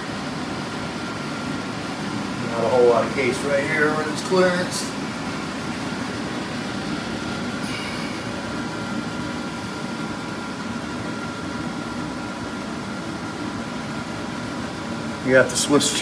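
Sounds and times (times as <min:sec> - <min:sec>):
faint high whine: 0:00.0 - 0:16.0
room ventilation hum: 0:00.0 - 0:16.0.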